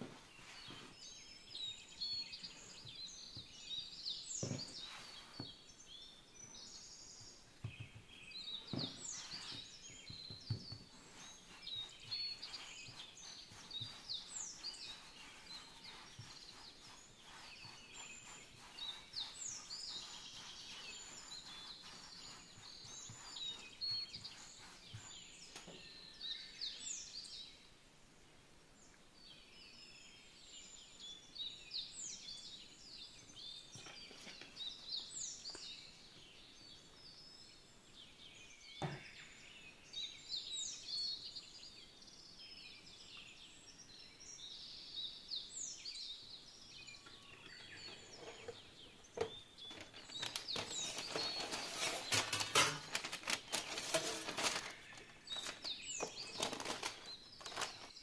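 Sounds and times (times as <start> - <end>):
small birds chirping: 0.0 - 27.8, 28.6 - 58.0.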